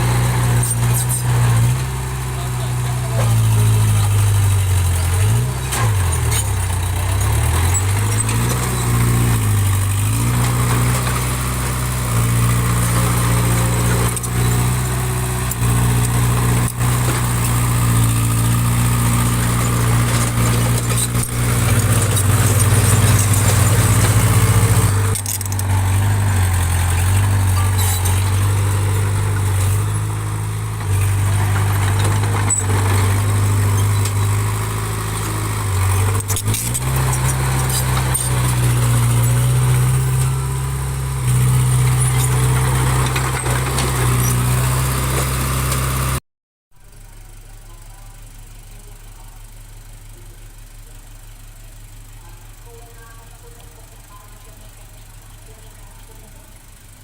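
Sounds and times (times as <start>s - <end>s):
heavy machinery diesel engine revving: 0.0s - 46.2s.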